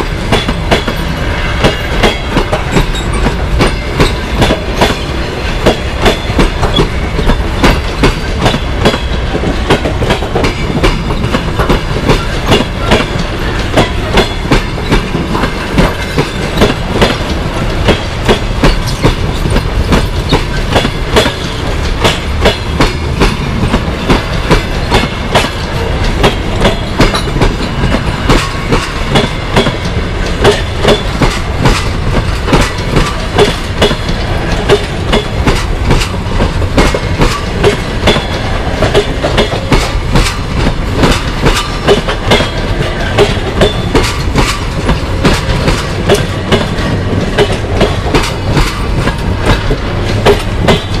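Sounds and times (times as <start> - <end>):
train rumble: 0.0 - 51.0
train wheels clickety-clack: 0.0 - 51.0.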